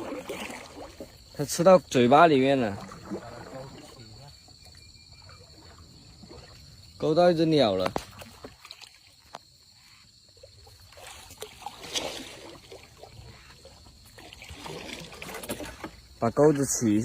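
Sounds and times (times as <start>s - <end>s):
insects chirring: 0.0s - 17.0s
water trickling and splashing: 0.0s - 17.0s.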